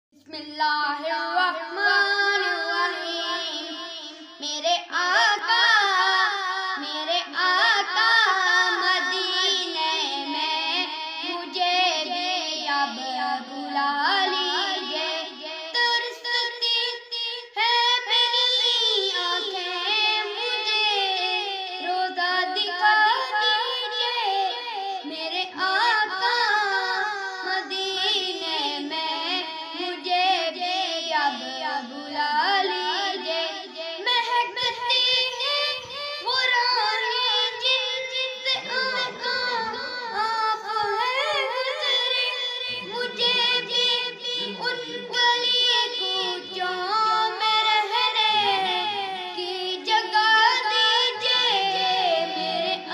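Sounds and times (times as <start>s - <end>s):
boy singing solo: 4.5s - 52.9s.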